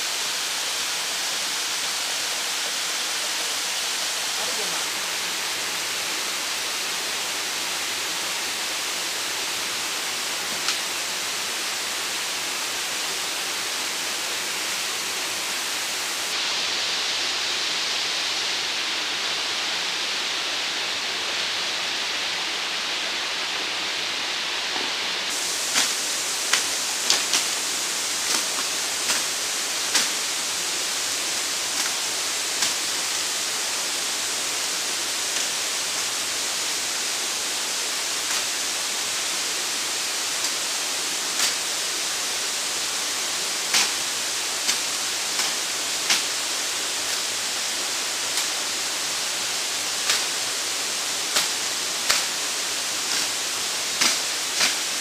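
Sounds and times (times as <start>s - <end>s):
rocky stream rushing: 0.0s - 55.0s.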